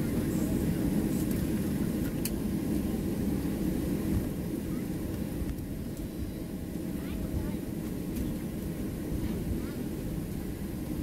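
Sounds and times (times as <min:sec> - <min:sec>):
jet engine low rumble: 0:00.0 - 0:11.0.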